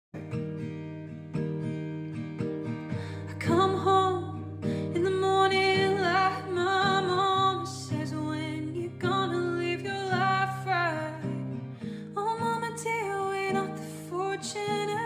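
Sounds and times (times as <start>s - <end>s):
acoustic guitar plucked: 0.2s - 15.0s.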